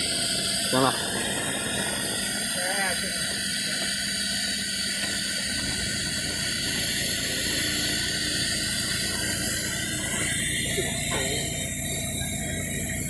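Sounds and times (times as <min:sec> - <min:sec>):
oil extractor hissing: 0:00.0 - 0:13.0.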